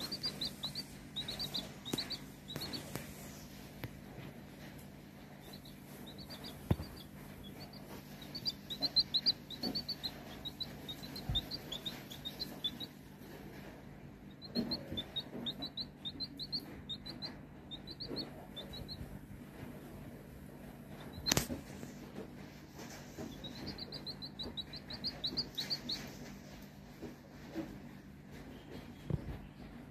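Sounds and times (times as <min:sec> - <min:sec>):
chick peeping: 0:00.0 - 0:29.9.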